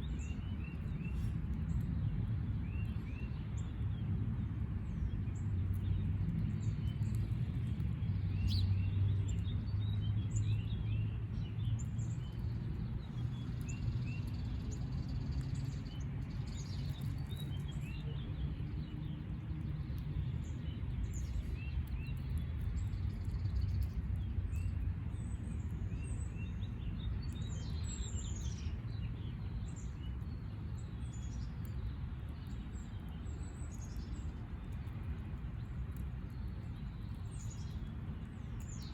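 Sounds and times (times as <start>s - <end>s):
small birds chirping: 0.0s - 4.1s, 4.8s - 38.9s.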